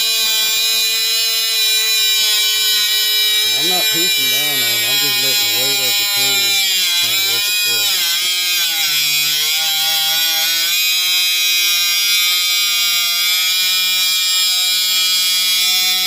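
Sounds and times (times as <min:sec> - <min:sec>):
angle grinder cutting metal: 0:00.0 - 0:16.0.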